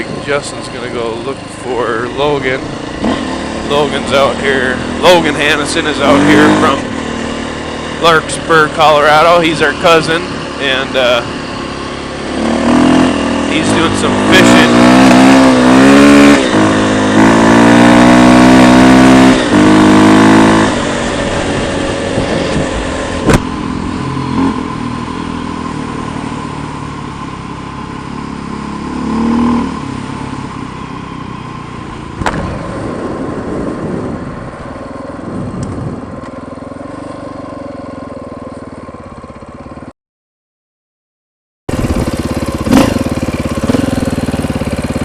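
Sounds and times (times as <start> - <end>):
dirt bike engine: 0.0 - 39.9, 41.7 - 45.0.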